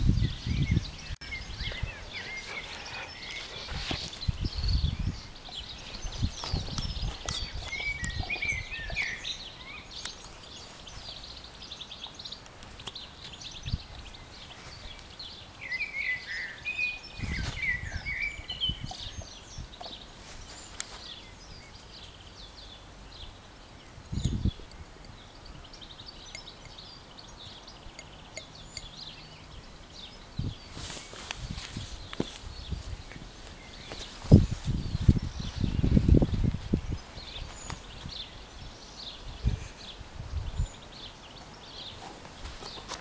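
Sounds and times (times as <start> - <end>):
birds singing and chirping: 0.0 - 43.0.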